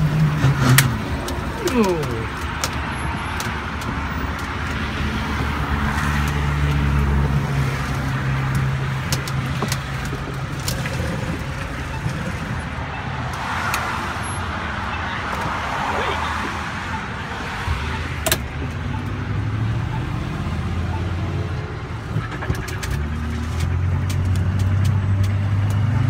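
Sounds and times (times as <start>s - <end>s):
road traffic: 0.0s - 26.0s
vehicle low engine drone: 0.0s - 26.0s.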